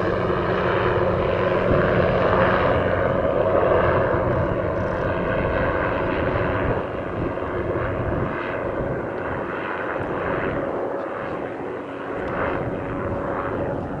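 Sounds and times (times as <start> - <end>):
deep helicopter rotor noise: 0.0 - 14.0
helicopter turbine tone: 0.0 - 14.0.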